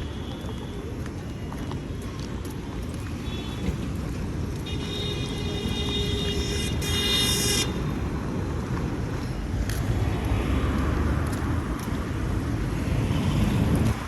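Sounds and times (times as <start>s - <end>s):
street traffic rumbling: 0.0s - 14.0s.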